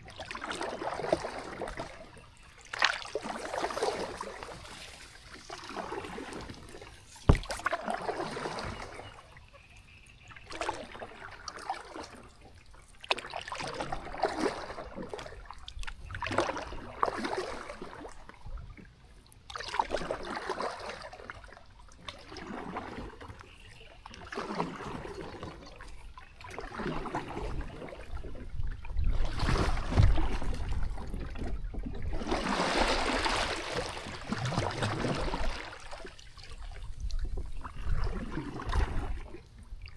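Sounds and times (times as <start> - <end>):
kayak paddle strokes in water: 0.0 - 39.9.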